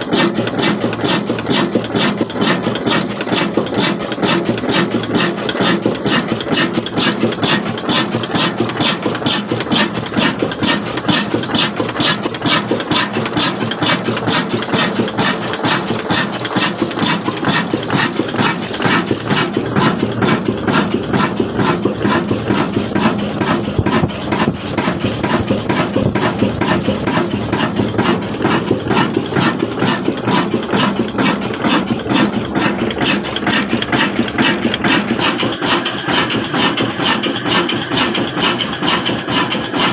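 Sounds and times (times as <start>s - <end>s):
diesel engine running: 2.8s - 39.9s.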